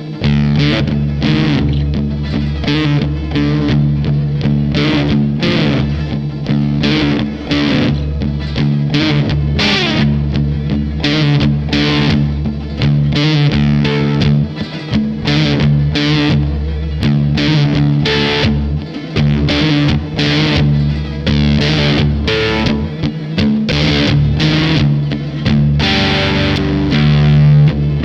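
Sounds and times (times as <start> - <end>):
fuzz electric guitar: 0.0 - 28.0.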